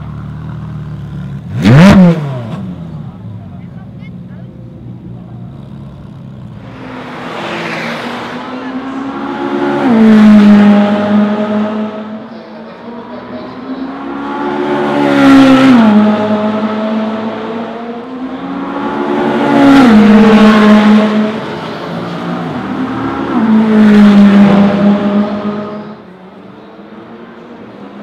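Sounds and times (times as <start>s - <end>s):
car engine accelerating hard: 0.8s - 3.4s, 6.4s - 28.0s.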